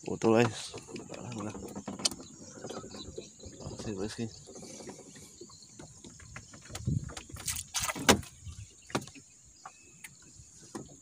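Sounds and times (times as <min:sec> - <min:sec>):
clicks and knocks in metal boat: 0:00.2 - 0:09.2.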